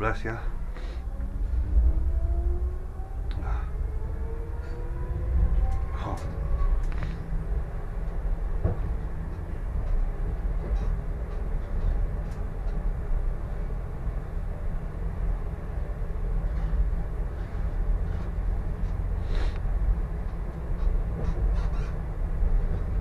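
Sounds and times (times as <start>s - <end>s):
tram rumbling on track: 0.0s - 23.0s.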